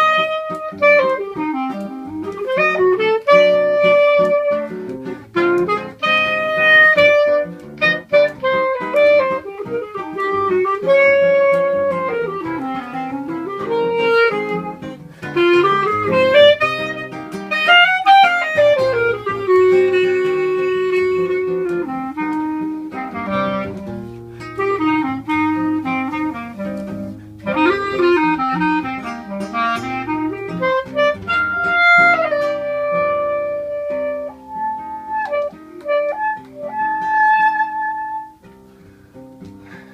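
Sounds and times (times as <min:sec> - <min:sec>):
clarinet melody: 0:00.0 - 0:39.9
plucked guitar accompaniment: 0:00.0 - 0:39.9.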